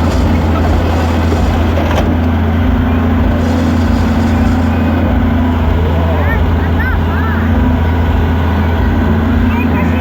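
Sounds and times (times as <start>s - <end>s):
large engine humming: 0.0s - 10.0s.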